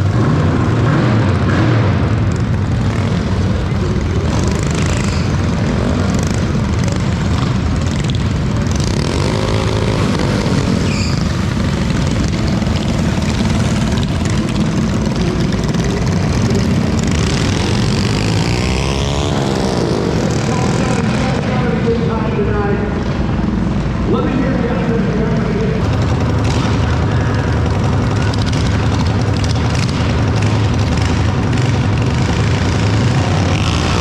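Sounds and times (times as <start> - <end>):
mini bike engines revving: 0.0 - 22.1, 25.5 - 34.0.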